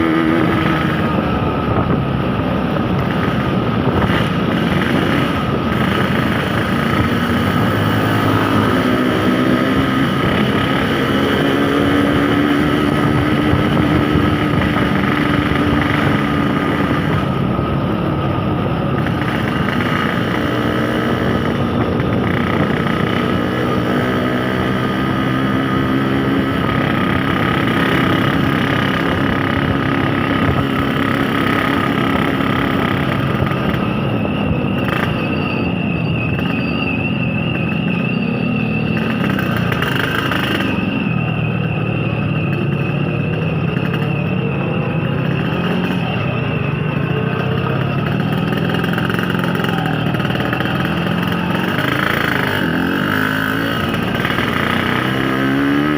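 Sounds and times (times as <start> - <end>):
traffic: 0.0 - 55.9
two-stroke motorcycle engine revving: 0.0 - 55.9.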